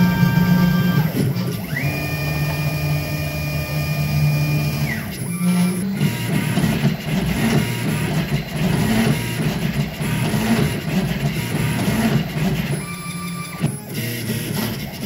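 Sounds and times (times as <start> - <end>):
choppy motor stepping noise: 0.0 - 15.0
stepper motors whining: 0.0 - 15.0.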